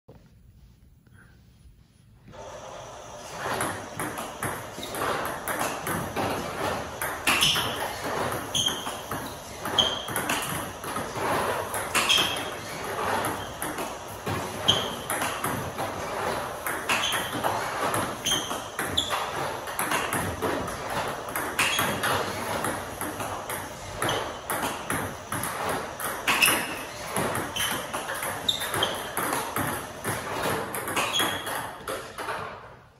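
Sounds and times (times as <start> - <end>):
ping pong balls clicking off table: 3.4 - 32.7.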